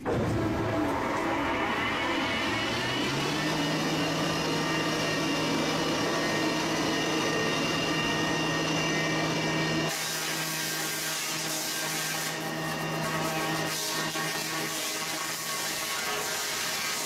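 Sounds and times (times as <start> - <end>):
sawmill motor hum and whine: 0.0 - 17.0.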